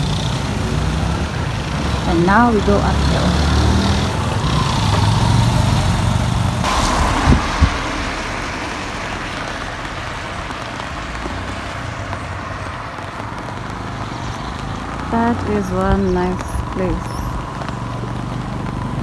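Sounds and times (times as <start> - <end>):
street noise: 0.0 - 19.0
vehicle engine running: 0.0 - 19.0.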